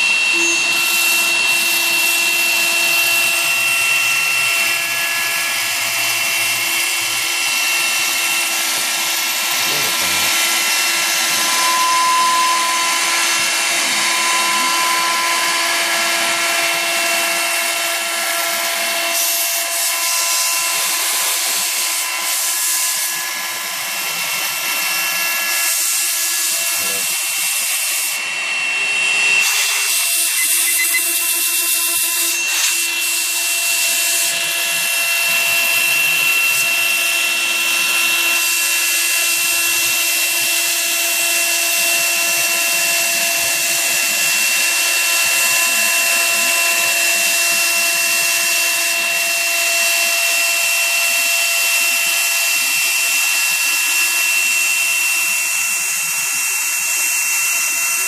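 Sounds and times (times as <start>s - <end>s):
bit cutting plastic hissing: 0.0s - 28.4s, 29.1s - 49.2s
spindle whining: 0.0s - 50.9s.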